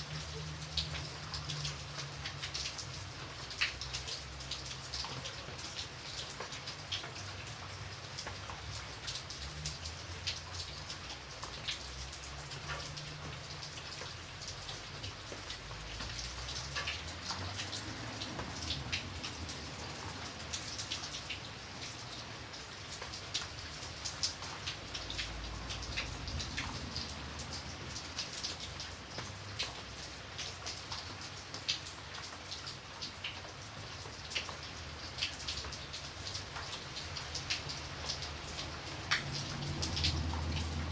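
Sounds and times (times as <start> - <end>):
raindrops pattering on a surface: 0.0 - 40.9.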